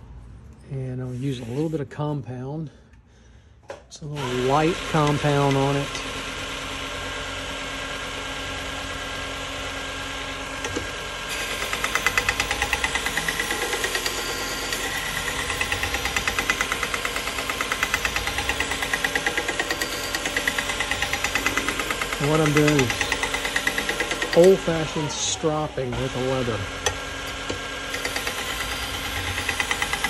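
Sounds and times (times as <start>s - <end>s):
belt sharpener motor humming: 4.2s - 30.0s.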